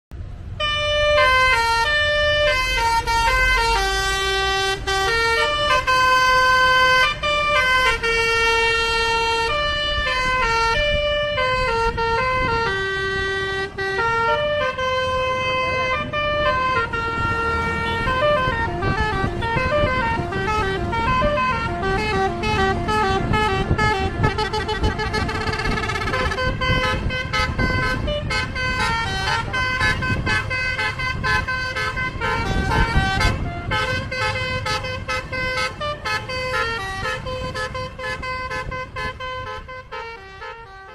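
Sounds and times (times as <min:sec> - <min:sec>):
multi-tone bus horn playing a tune: 0:00.4 - 0:40.9.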